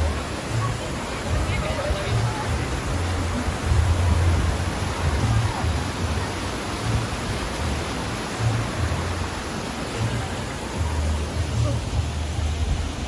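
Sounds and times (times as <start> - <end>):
rushing white water: 0.0 - 13.0.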